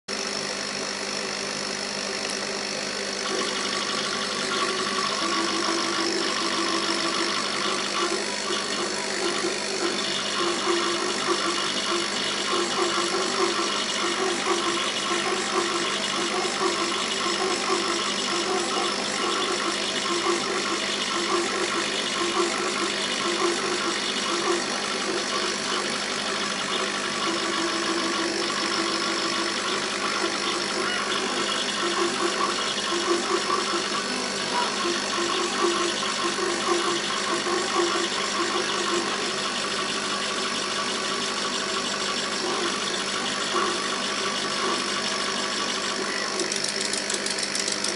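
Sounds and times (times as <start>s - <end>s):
laser cutter humming: 0.1s - 47.9s.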